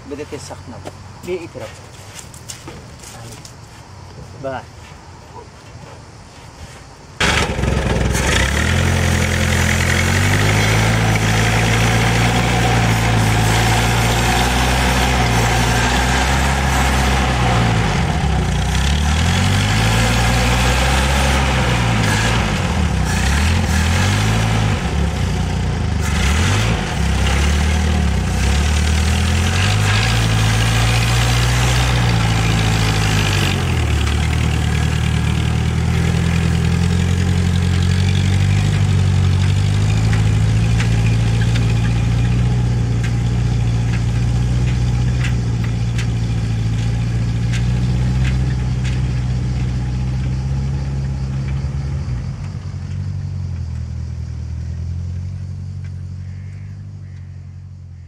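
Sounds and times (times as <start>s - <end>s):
jeep engine running: 7.2s - 58.0s.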